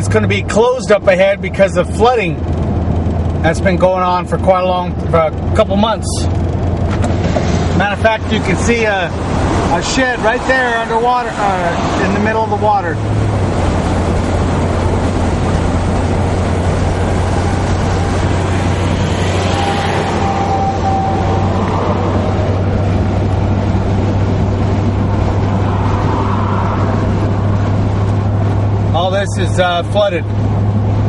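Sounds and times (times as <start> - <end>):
car engine drone: 0.0 - 31.0
road and tyre noise: 0.0 - 31.0.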